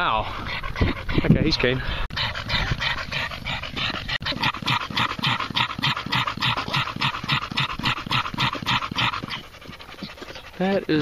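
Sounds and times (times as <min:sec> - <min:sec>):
dog panting hard and fast: 0:00.0 - 0:11.0.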